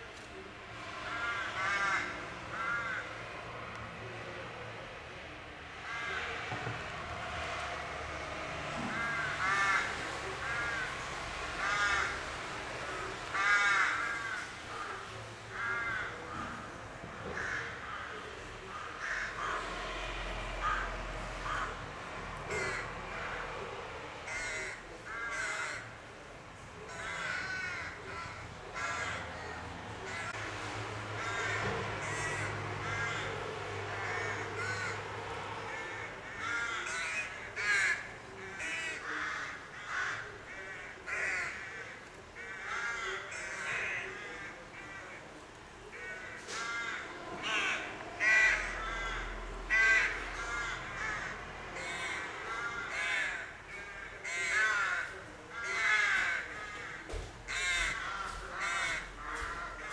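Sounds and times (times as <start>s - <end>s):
rooks cawing: 1.0s - 3.4s, 5.8s - 6.5s, 7.2s - 26.0s, 26.8s - 30.5s, 31.1s - 59.9s.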